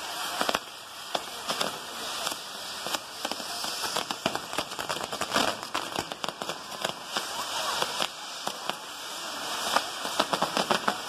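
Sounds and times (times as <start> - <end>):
firework pops and bangs: 0.0 - 11.0
fireworks hissing and crackling: 0.0 - 11.0.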